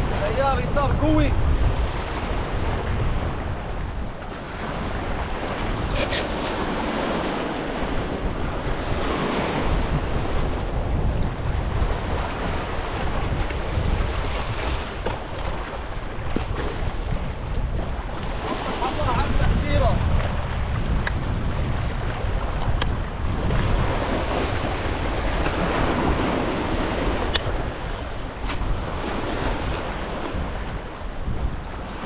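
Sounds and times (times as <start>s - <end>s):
sea water washing around boat: 0.0s - 32.0s
wind buffeting microphone: 0.0s - 32.0s.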